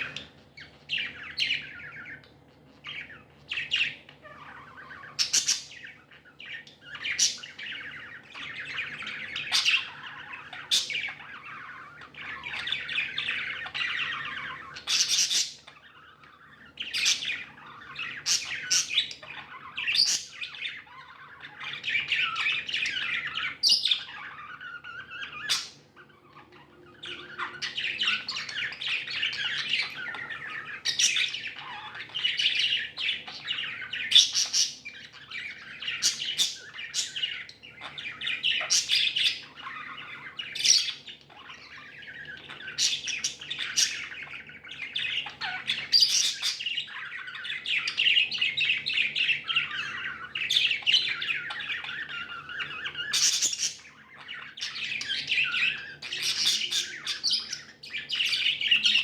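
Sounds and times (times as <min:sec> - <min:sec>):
budgies chattering and warbling: 0:00.0 - 0:59.0.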